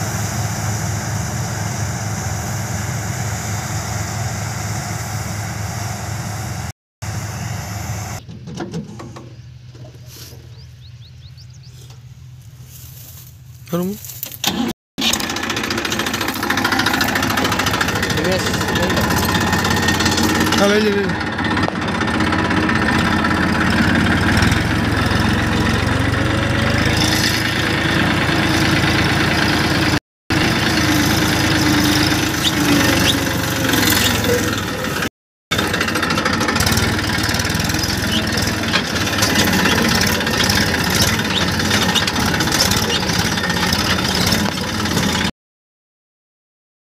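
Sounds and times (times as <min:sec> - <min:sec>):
tractor diesel engine running: 0:00.0 - 0:45.3.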